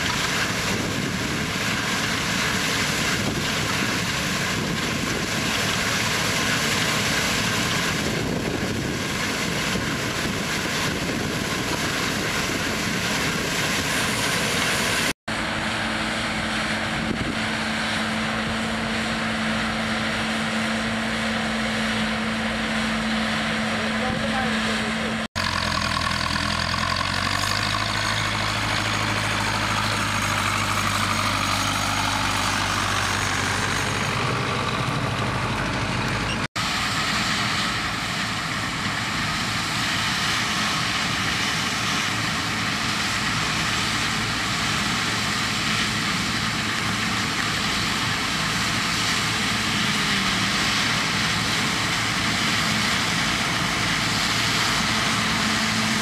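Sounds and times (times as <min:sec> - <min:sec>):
combine harvester drone: 0:00.0 - 0:56.0
tractor diesel engine running: 0:00.0 - 0:56.0.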